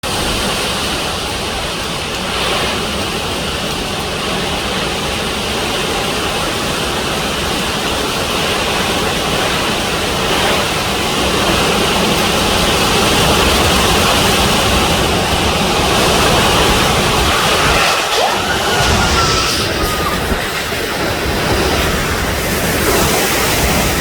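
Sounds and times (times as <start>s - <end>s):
heavy rain: 0.0s - 24.0s
strong wind gusts: 0.1s - 24.0s.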